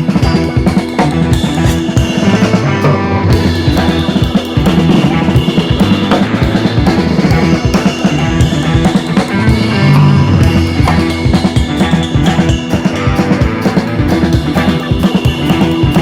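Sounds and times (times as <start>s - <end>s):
drum kit beat: 0.0s - 16.0s
sustained instruments: 0.0s - 16.0s.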